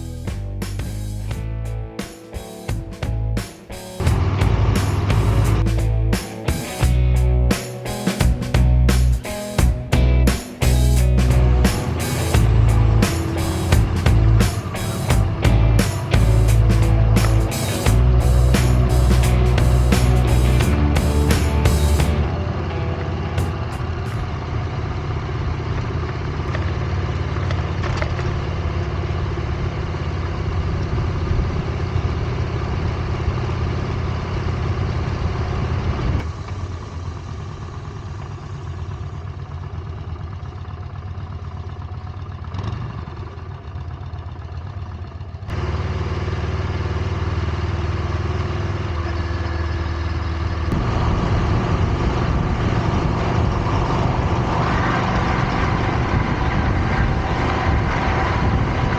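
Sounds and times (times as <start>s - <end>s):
engine running at low revs: 2.7s - 58.9s.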